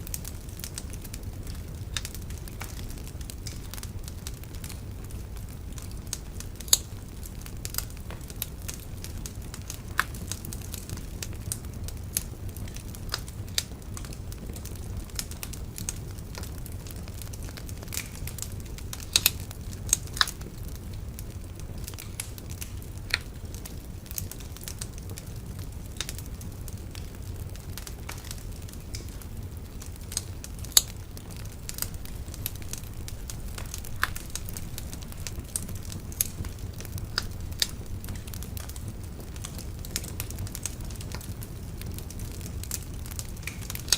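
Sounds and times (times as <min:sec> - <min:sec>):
bonfire crackling and popping: 0:00.0 - 0:43.9.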